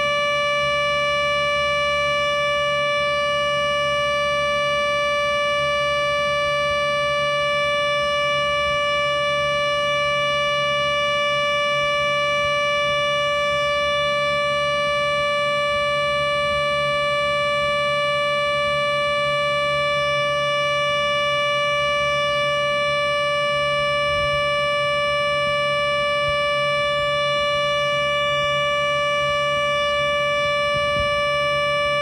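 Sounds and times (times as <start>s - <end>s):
low hum: 0.0s - 32.0s
synthesized siren steady tone: 0.0s - 32.0s.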